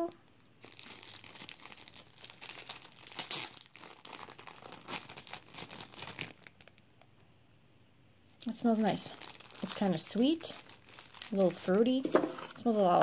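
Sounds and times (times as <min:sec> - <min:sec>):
plastic wrapper crinkling: 0:00.0 - 0:07.2, 0:08.4 - 0:13.0.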